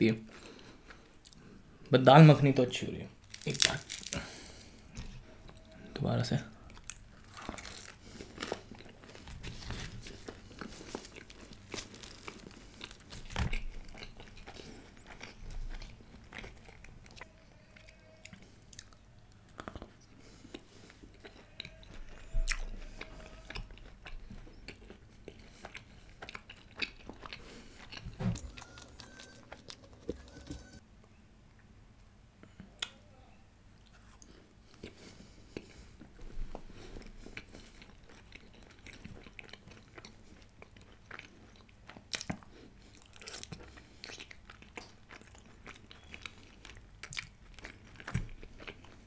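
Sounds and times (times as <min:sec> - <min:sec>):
chewing flatbread: 0:03.2 - 0:05.9, 0:06.6 - 0:30.8, 0:33.8 - 0:49.0.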